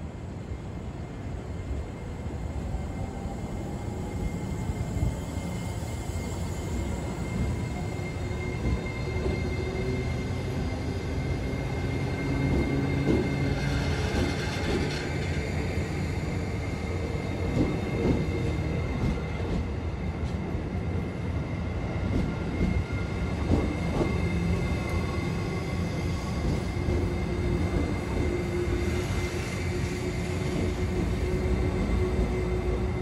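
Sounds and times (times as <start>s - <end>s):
electric train pulling out: 2.9s - 33.0s.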